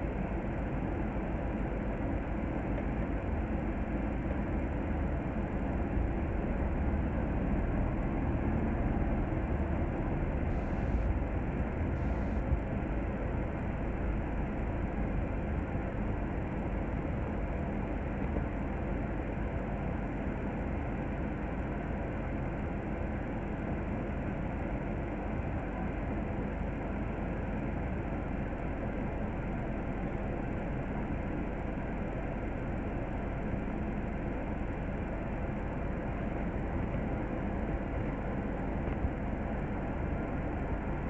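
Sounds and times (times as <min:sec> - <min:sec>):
bus engine rumbling and idling: 0:00.0 - 0:41.0.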